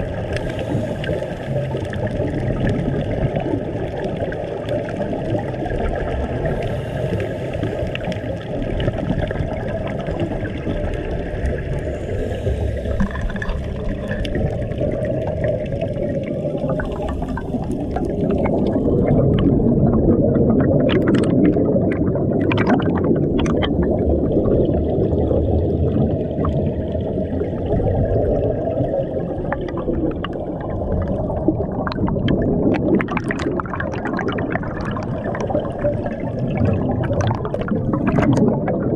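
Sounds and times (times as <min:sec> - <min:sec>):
muffled underwater rush: 0:00.0 - 0:38.9
regulator bubbles gurgling: 0:00.0 - 0:38.9.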